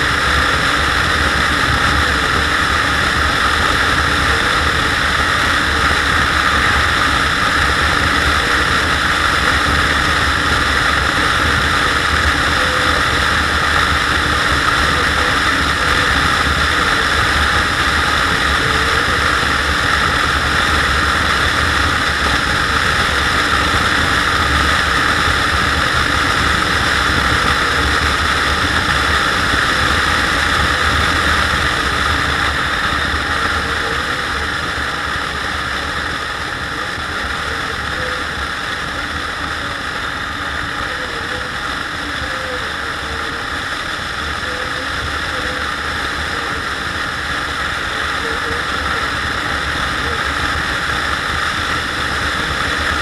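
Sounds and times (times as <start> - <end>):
scooter engine drone: 0.0 - 53.0
wind and road noise: 0.0 - 53.0.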